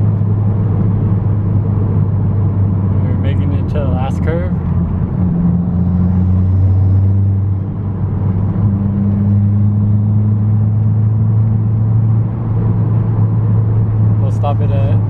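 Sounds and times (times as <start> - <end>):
car engine running under load: 0.0 - 15.0.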